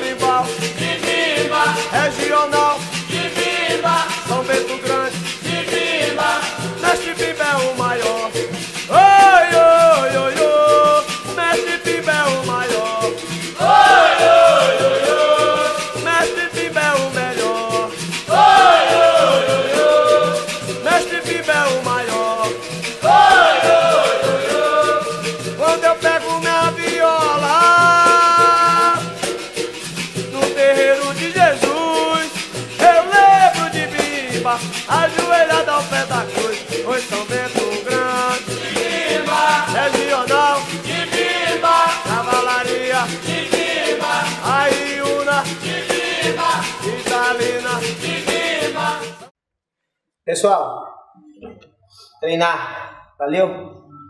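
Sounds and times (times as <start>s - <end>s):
person singing: 0.0s - 29.2s, 30.3s - 49.3s
steady percussion rhythm: 0.0s - 49.3s.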